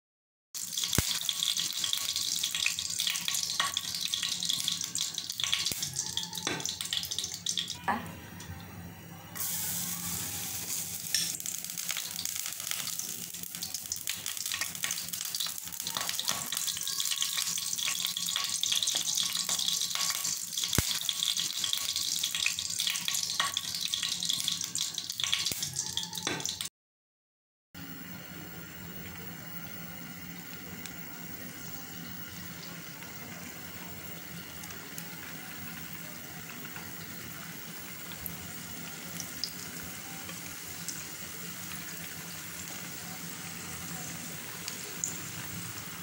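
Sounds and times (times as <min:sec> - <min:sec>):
garlic sizzling in oil: 0:00.6 - 0:07.9, 0:09.4 - 0:26.7, 0:27.9 - 0:46.0.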